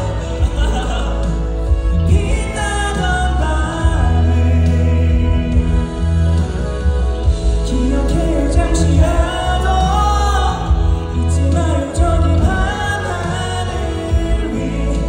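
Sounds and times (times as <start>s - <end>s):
instrumental accompaniment: 0.0s - 15.0s
man singing: 0.0s - 15.0s
steady bass line: 0.0s - 15.0s.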